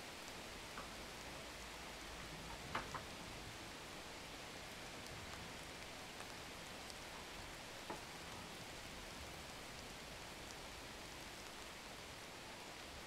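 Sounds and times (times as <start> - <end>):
faint room tone hiss: 0.0 - 13.0.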